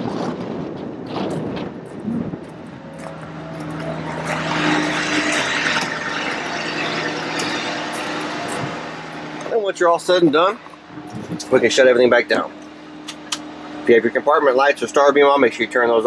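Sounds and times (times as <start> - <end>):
diesel engine idling: 1.7 - 16.0.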